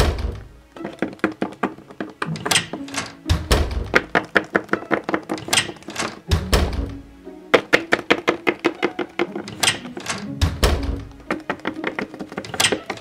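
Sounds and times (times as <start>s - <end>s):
rapid sharp taps and clicks: 0.8s - 6.8s, 7.5s - 13.0s.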